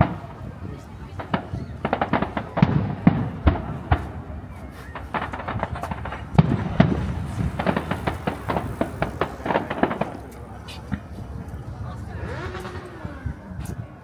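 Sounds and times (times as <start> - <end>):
fireworks cracks and bangs: 0.0 - 14.0.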